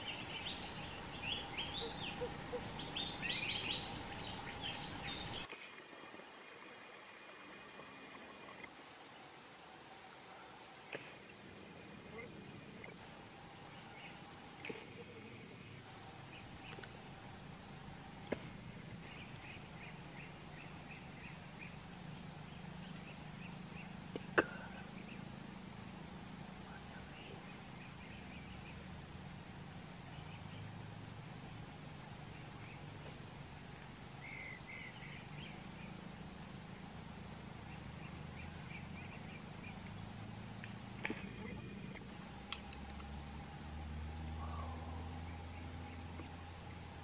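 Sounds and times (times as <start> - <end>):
insects calling in pulses: 0.0 - 47.0.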